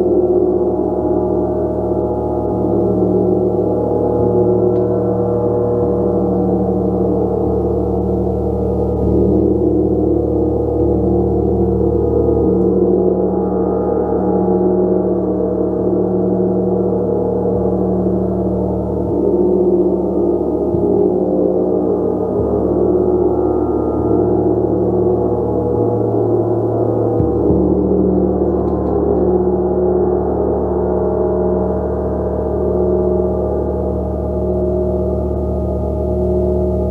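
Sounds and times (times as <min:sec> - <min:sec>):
gong sustained tones: 0:00.0 - 0:36.9.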